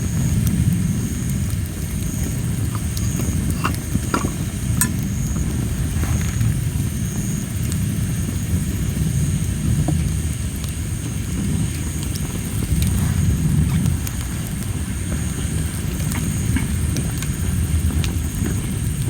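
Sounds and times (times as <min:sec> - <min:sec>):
fire crackles and pops: 0:00.0 - 0:19.0
insects trilling: 0:00.0 - 0:19.0
wood fire rumbling: 0:00.0 - 0:19.0.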